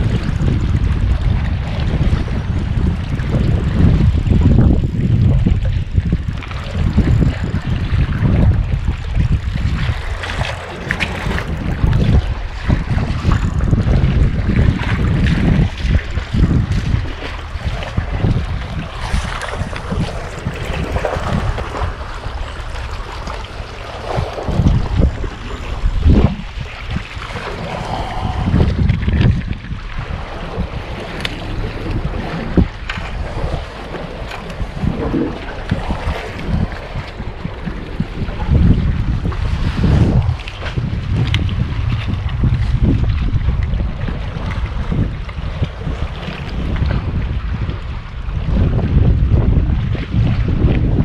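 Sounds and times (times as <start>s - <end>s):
sea waves washing among concrete: 0.0s - 51.0s
wind buffeting microphone: 0.0s - 51.0s.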